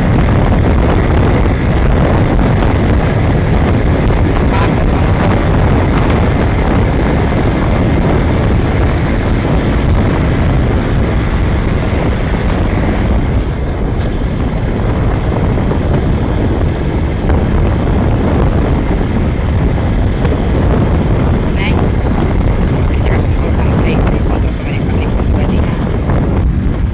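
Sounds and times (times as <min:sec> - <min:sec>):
motorcycle engine: 0:00.0 - 0:26.9
wind noise: 0:00.0 - 0:26.9.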